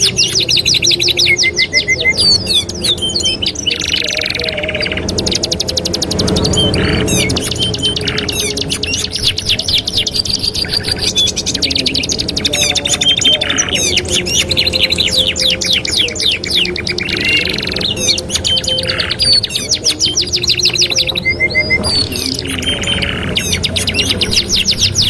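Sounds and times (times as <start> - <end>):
canaries singing: 0.0 - 25.0.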